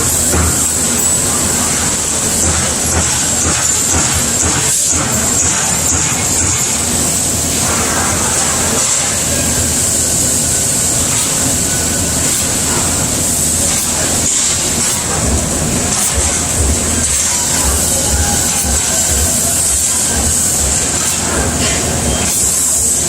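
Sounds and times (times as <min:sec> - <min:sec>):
punch press running: 0:00.0 - 0:23.0.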